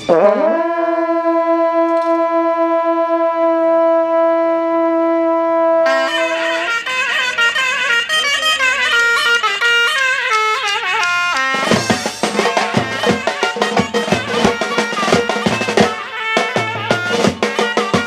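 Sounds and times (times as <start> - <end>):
long brass trumpets holding a note: 0.0 - 18.0
shawm playing fast melody: 0.0 - 18.0.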